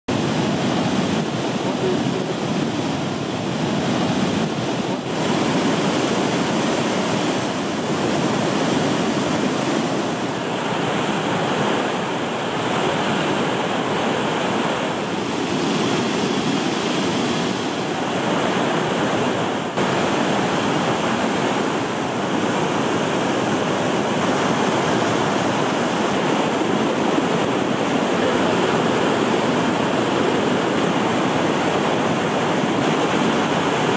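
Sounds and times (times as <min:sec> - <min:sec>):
waterfall and whitewater rushing: 0:00.1 - 0:33.9.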